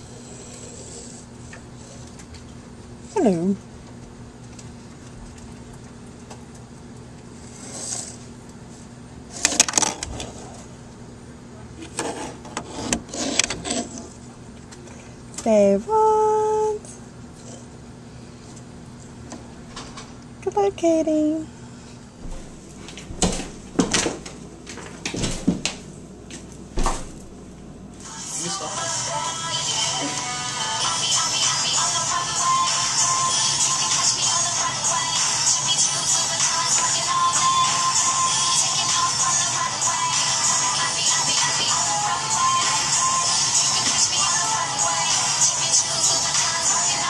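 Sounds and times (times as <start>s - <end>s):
quiet electrical hum: 0.0s - 47.0s.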